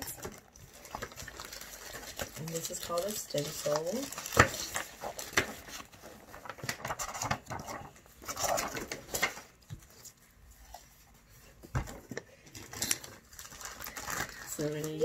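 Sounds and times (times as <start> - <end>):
paper and card rustling: 0.0 - 15.0.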